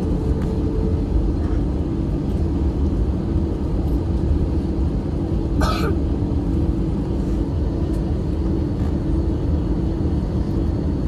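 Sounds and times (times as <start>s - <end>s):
rumble of wheels and engines: 0.0s - 11.0s
steady cabin hum: 0.0s - 11.0s.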